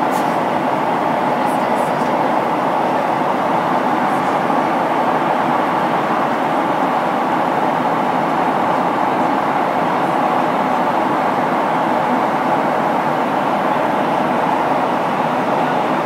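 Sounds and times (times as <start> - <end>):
airliner engines roaring: 0.0 - 16.0.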